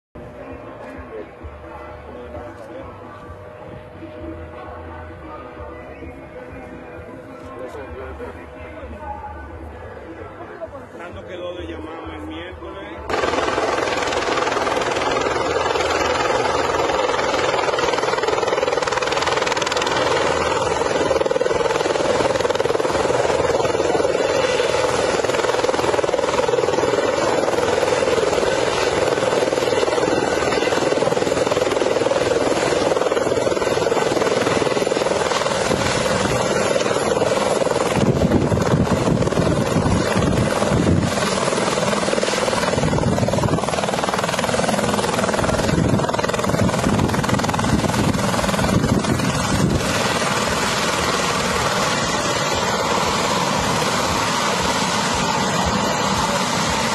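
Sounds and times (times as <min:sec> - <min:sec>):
helicopter turbine and rotor: 0:00.2 - 0:56.9.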